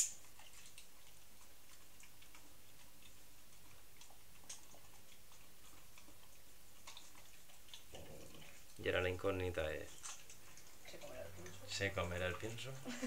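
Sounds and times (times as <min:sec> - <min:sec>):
dog teeth clicking while chewing: 0:00.0 - 0:08.8, 0:09.7 - 0:12.8.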